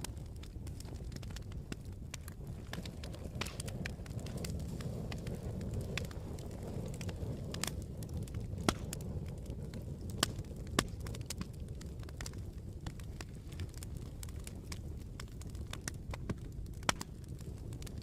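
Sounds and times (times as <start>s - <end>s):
campfire burning: 0.0s - 18.0s
fire crackles and pops: 0.0s - 18.0s.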